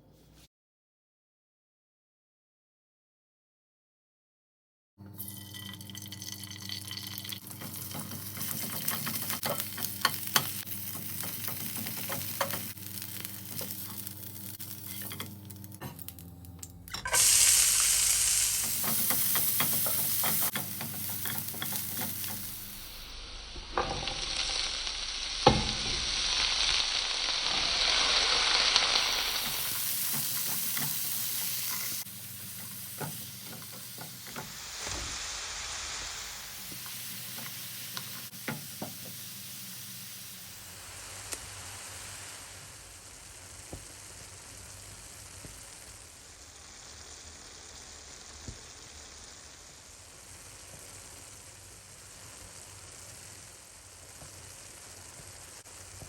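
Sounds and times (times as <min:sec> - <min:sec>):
food sizzling in a pan: 0:05.1 - 0:56.0.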